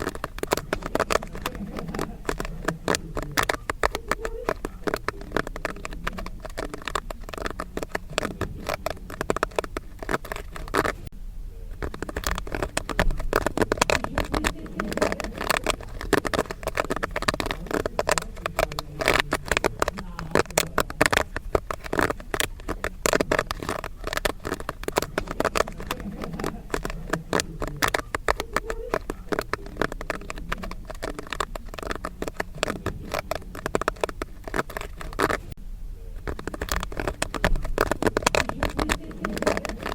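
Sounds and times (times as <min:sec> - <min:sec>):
popcorn popping: 0:00.0 - 0:39.9.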